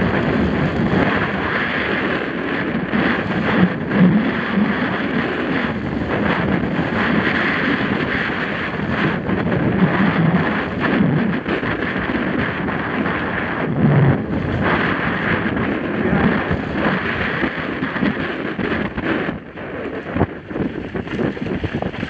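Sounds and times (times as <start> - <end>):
bike rattling over bumps: 0.0 - 22.0
wind rushing on microphone: 0.0 - 22.0.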